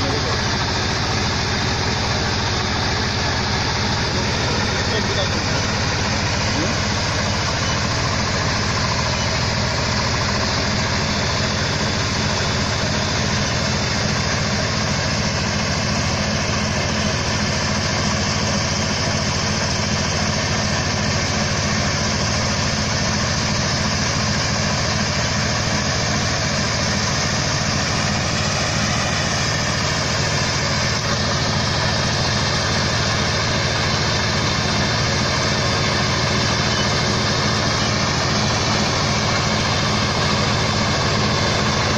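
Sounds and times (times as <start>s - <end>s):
harvester engine droning: 0.0s - 41.9s.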